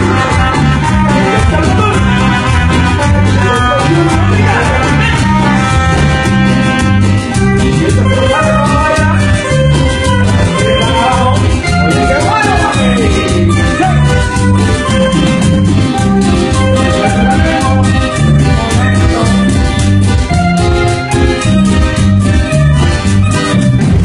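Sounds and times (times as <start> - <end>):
repeating bass line: 0.0 - 24.0
sliding lead melody: 0.0 - 24.0
steady percussion: 0.0 - 24.0.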